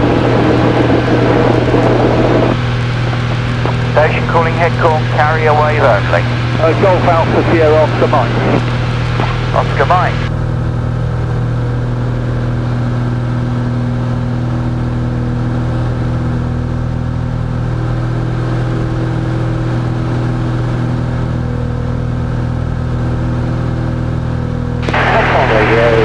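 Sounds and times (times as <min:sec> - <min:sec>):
light aircraft engine droning: 0:00.0 - 0:26.0.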